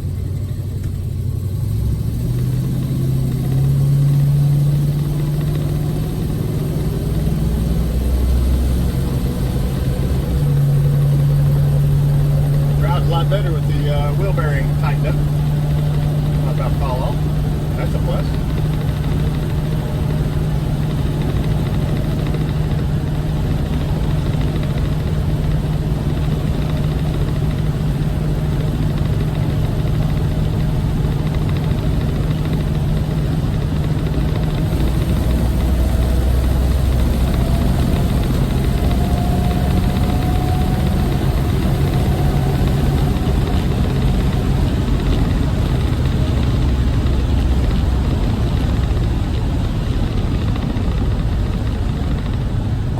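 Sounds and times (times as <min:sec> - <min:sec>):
car engine running: 0:00.0 - 0:52.9
road noise: 0:00.0 - 0:52.9.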